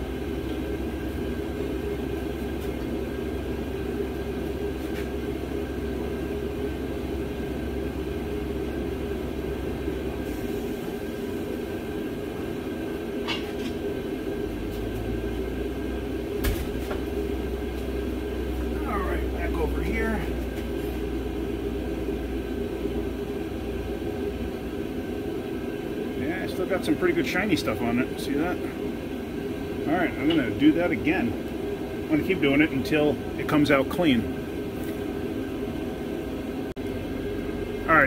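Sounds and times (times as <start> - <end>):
faint steady whine: 0.0 - 38.0
low machine drone: 0.0 - 38.0.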